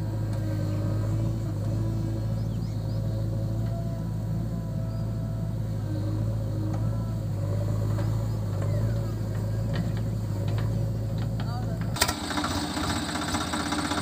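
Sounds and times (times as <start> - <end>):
diesel engines droning: 0.0 - 14.0.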